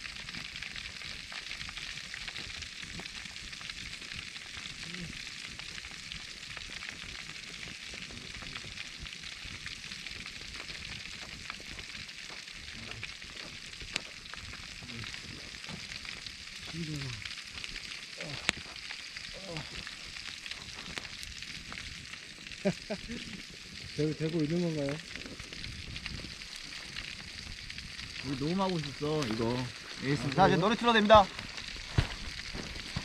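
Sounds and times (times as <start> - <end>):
fire popping and crackling: 0.0 - 33.0
pork belly sizzling: 0.0 - 33.0.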